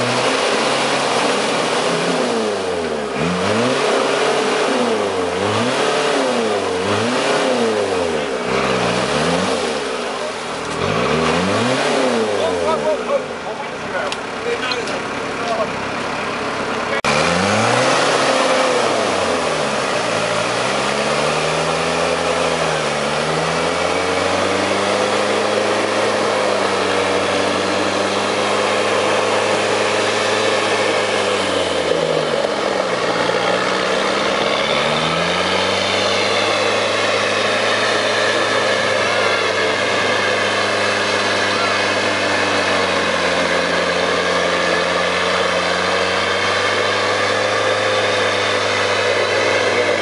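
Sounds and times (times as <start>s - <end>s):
diesel engine revving: 0.0s - 50.0s.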